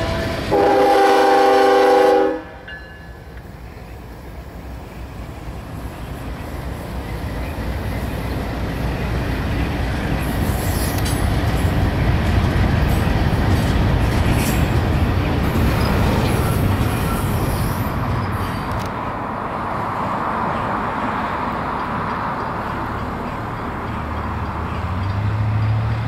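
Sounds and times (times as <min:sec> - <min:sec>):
diesel locomotives rumbling: 0:00.0 - 0:26.0
train cars rolling on rails: 0:00.0 - 0:26.0.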